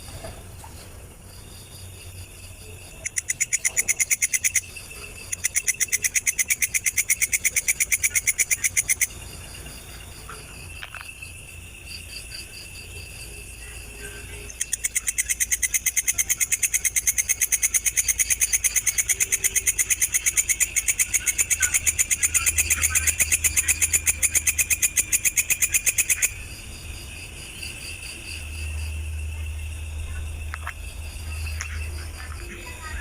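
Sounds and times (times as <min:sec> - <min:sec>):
high cricket trill: 0:00.0 - 0:33.0.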